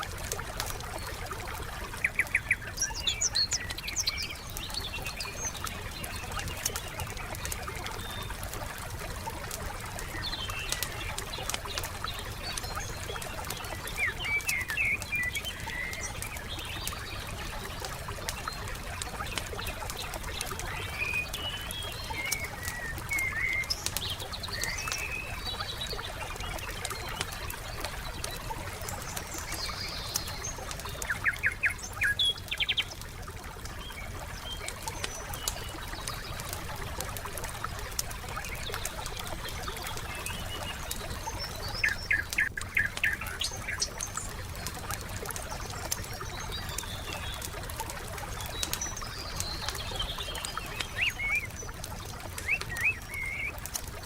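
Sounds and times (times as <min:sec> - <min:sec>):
songbirds chirping: 0:00.0 - 0:54.0
wood fire crackling: 0:00.0 - 0:54.0.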